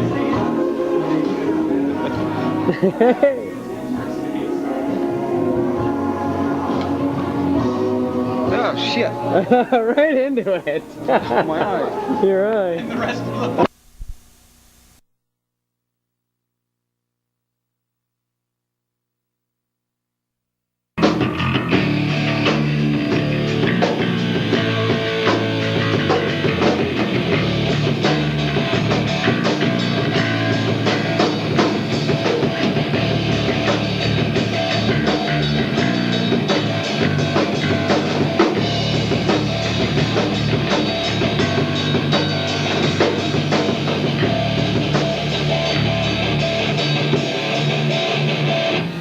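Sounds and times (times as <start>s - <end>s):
rock music with drums: 0.0s - 13.7s, 21.0s - 49.0s.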